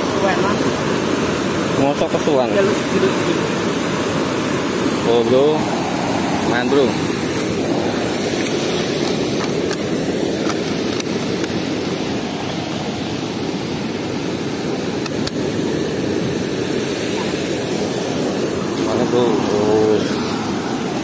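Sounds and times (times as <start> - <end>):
water rushing through sluice: 0.0 - 21.0.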